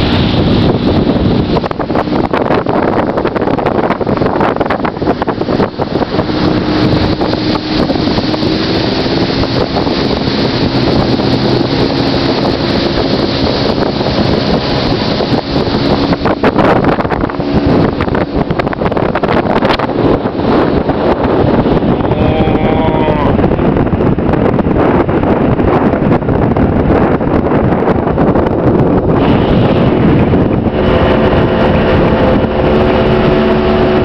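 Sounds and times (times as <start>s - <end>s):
motorboat engine droning: 0.0s - 34.0s
wind buffeting microphone: 0.0s - 34.0s.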